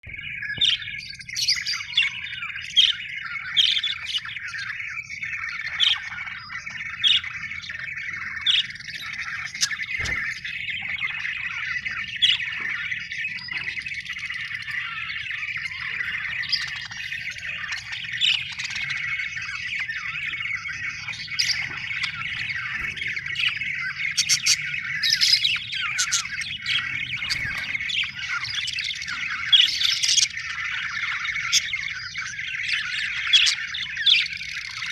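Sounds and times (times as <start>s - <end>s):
bird chirps and squawks: 0.0s - 34.9s
budgerigars chattering and warbling: 0.0s - 34.9s.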